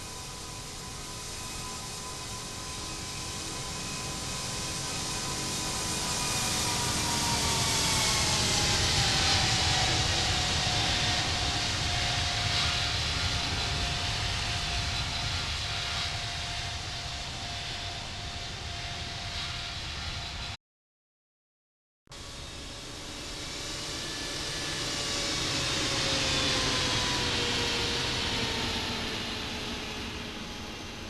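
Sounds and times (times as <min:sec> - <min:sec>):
jet airliner passing overhead: 0:00.0 - 0:20.6, 0:22.2 - 0:31.0.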